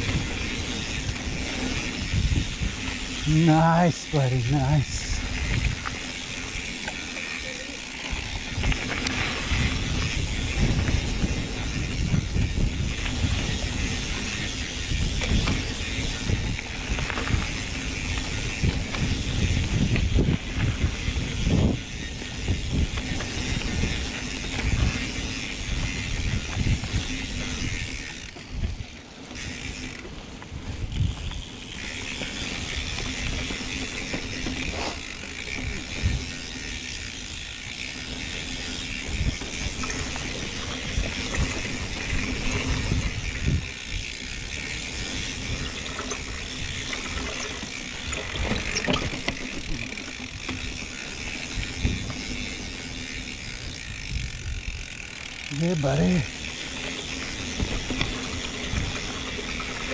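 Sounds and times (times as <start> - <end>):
bike chain rattling: 0.0 - 59.9
bike tyres rolling over dirt: 0.0 - 59.9.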